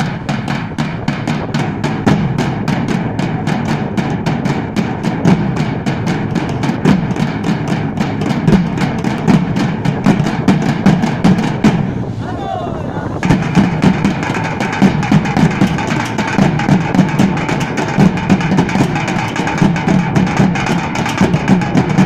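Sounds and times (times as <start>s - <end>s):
steel drums beaten with sticks: 0.0s - 12.1s, 13.0s - 22.0s.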